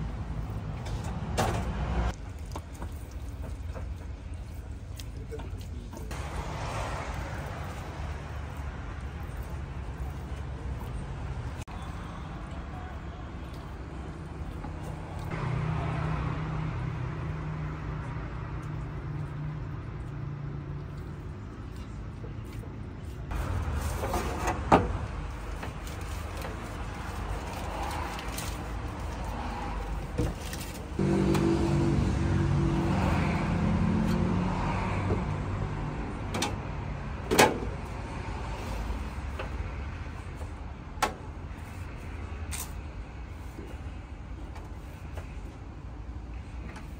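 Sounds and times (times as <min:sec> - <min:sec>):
traffic noise: 0:00.0 - 0:46.9
vehicle engine hum: 0:00.0 - 0:46.9.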